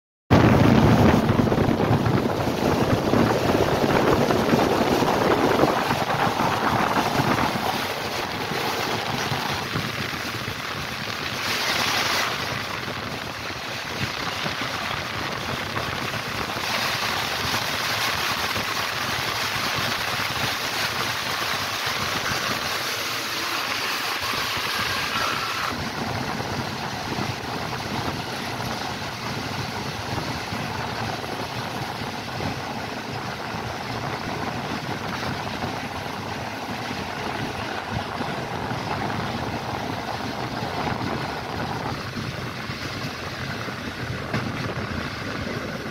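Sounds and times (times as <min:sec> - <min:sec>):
moving train running noise: 0:00.3 - 0:45.9
rush of air: 0:00.3 - 0:45.9.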